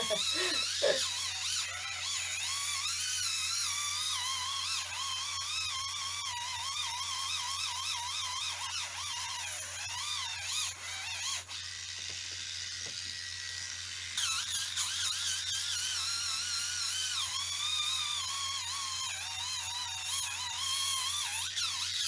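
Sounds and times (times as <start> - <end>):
electric callus remover whining: 0.0 - 22.0.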